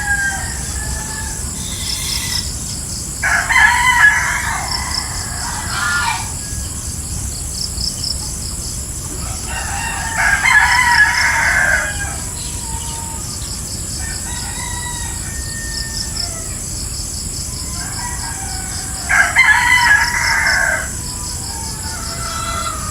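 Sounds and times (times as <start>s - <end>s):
rooster crowing: 0.0s - 7.2s, 9.1s - 16.8s, 17.4s - 22.9s
high pulsing insect chorus: 0.0s - 22.9s.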